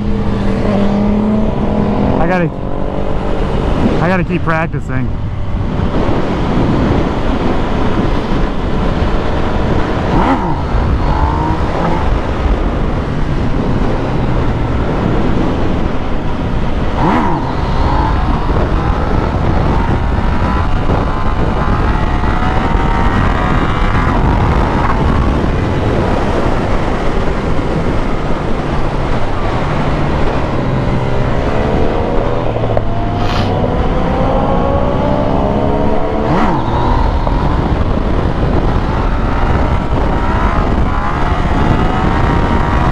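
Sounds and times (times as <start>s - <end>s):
motorcycle engines running: 0.0s - 42.9s
motorcycle revving and accelerating: 0.0s - 42.9s
wind rumble on microphone: 0.0s - 42.9s.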